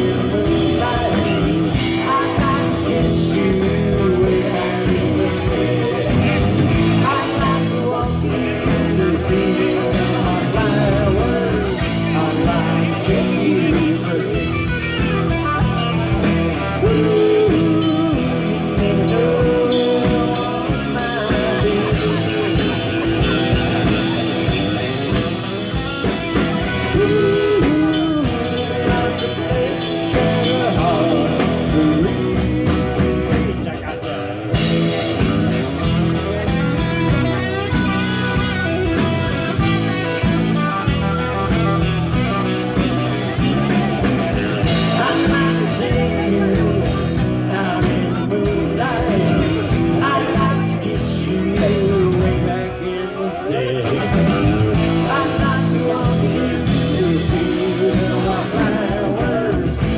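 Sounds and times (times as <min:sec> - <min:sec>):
steady drum beat: 0:00.0 - 0:33.8, 0:34.5 - 0:52.6, 0:54.2 - 0:59.9
electric guitar: 0:00.0 - 0:59.9
live band playing blues rock: 0:00.0 - 0:59.9.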